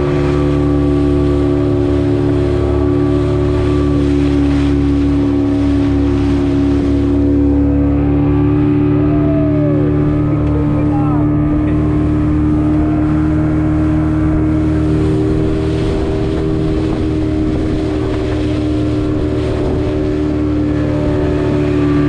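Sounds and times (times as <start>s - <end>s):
speedboat engine running: 0.0s - 22.0s.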